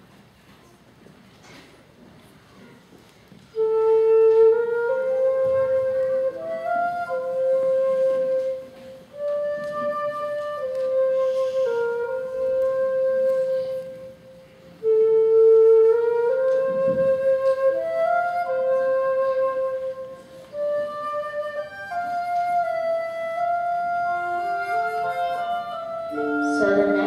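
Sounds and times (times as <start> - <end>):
solo flute melody: 3.4 - 27.0.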